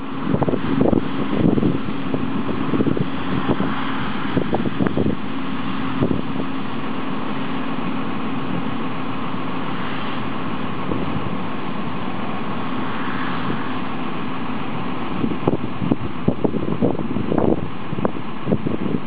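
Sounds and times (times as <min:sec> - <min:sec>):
combine harvester running: 0:00.0 - 0:19.0
low bumps: 0:00.0 - 0:19.0.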